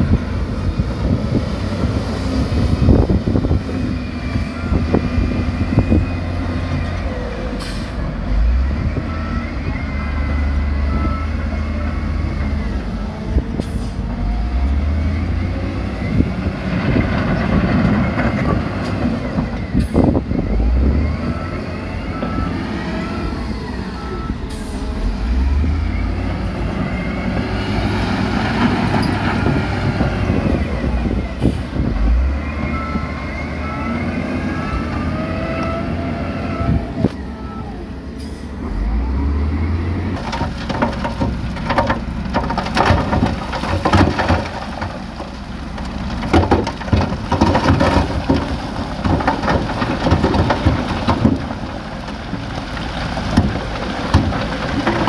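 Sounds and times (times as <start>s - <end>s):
diesel machinery engines revving: 0.0s - 55.0s.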